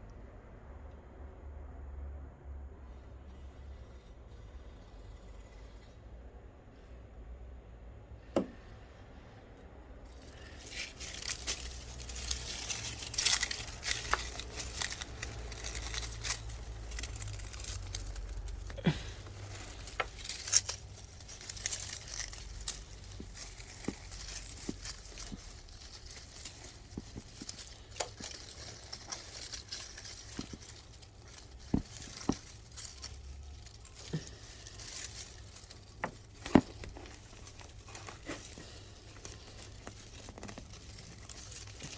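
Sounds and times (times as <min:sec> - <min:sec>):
crinkling and rustling handling noise: 0:08.3 - 0:41.9.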